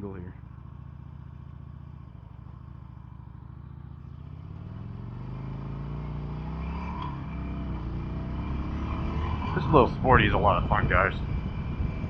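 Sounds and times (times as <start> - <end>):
motorcycle engine riding by: 0.0 - 12.0.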